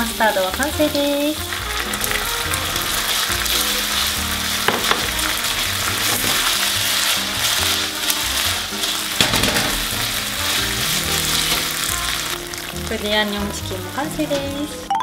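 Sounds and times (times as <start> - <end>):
chicken sizzling in a frying pan: 0.0 - 14.9.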